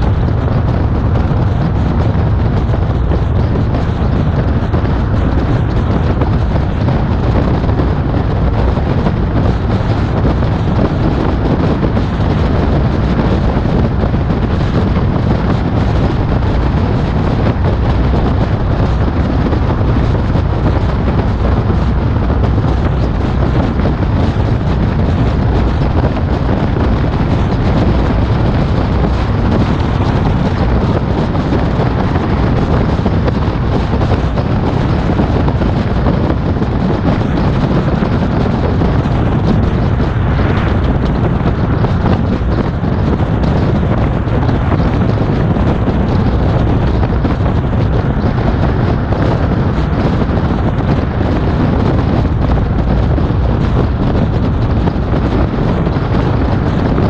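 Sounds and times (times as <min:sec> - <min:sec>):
wind buffeting a microphone: 0:00.0 - 0:57.0.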